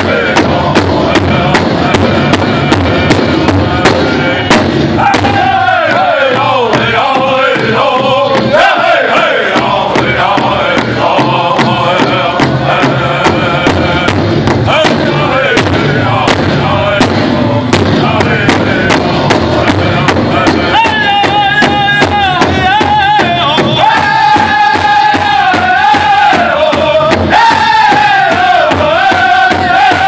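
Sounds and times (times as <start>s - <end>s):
large bass drum steady beat: 0.0s - 30.0s
men singing high-pitched chant: 0.0s - 30.0s.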